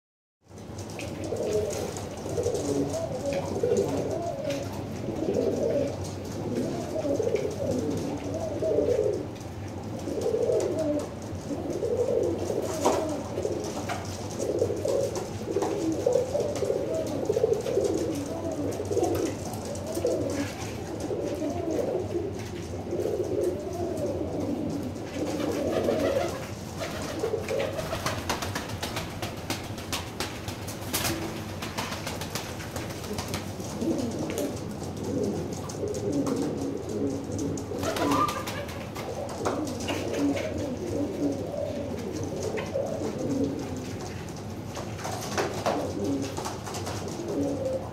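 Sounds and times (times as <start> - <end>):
pigeons cooing: 0.6 - 47.9.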